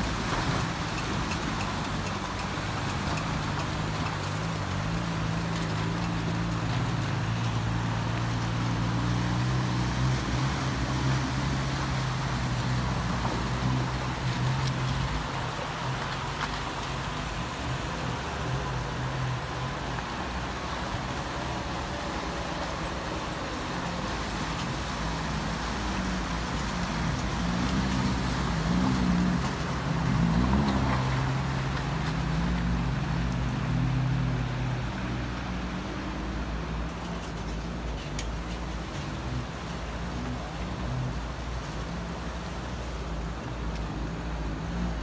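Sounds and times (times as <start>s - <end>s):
water splashing around tyres: 0.0s - 45.0s.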